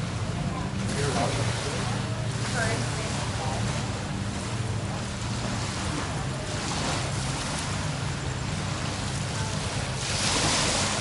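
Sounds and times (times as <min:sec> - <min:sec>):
low engine hum: 0:00.0 - 0:11.0
wind: 0:00.0 - 0:11.0
surf hissing: 0:00.8 - 0:11.0.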